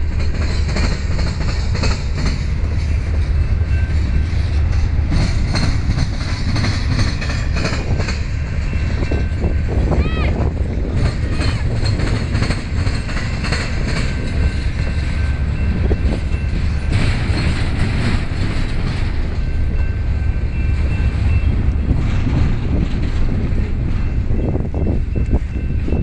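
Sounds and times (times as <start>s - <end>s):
train rumbling past: 0.0s - 26.0s
wheels clicking over rail joints: 0.0s - 26.0s.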